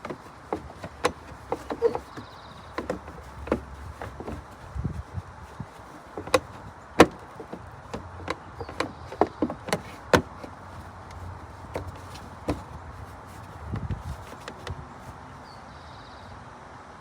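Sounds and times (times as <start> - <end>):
irregular knocks and taps: 0.0 - 4.6, 5.7 - 14.7.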